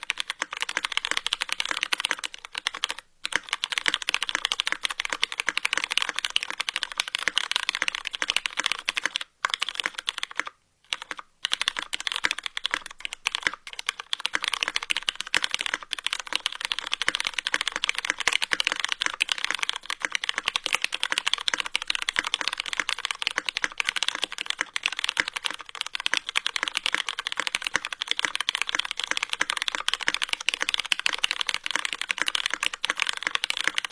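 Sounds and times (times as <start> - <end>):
fast keyboard typing: 0.0 - 33.9.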